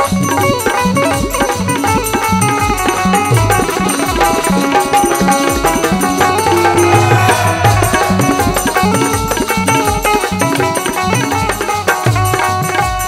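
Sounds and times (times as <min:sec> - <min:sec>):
folk melody of held notes: 0:00.0 - 0:12.4
hand drum beat: 0:00.0 - 0:13.0.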